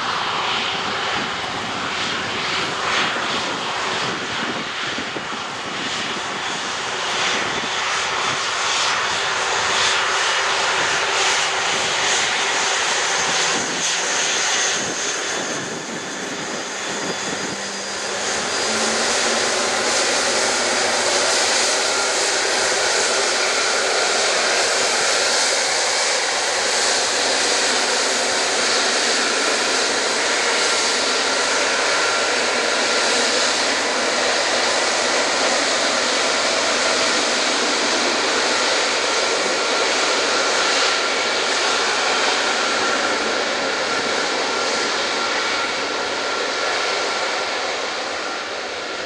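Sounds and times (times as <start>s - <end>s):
jet engines at taxi power: 0.0s - 49.0s.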